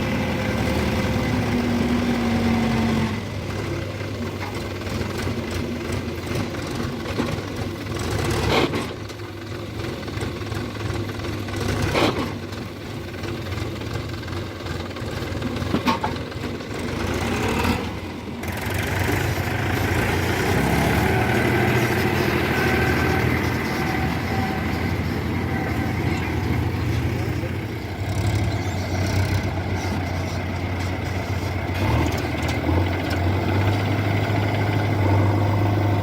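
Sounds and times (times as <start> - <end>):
diesel engines running: 0.0 - 36.0.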